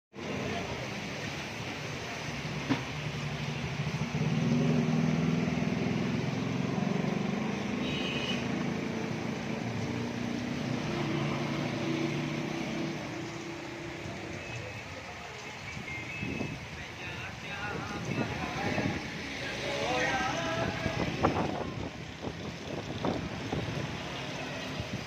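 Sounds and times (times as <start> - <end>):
rain hissing: 0.2 - 25.0
vehicle engine humming: 0.2 - 25.0.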